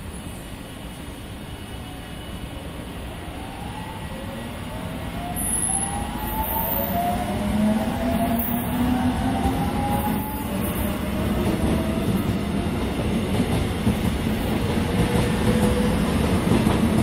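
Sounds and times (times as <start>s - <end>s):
train rolling rumble: 0.0s - 17.0s.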